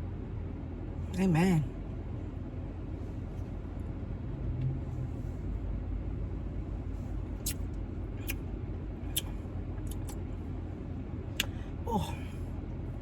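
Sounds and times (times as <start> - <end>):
low rumble inside car cabin: 0.0 - 13.0.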